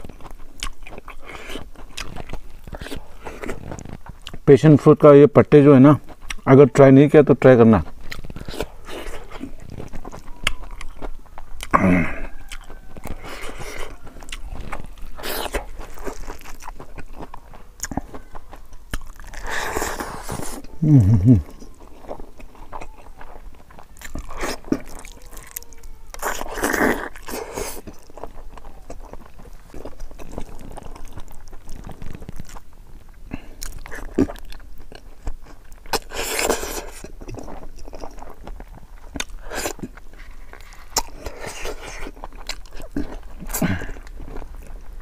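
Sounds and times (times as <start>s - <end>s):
man chewing wetly: 0.0s - 4.5s, 5.9s - 6.5s, 7.6s - 45.0s.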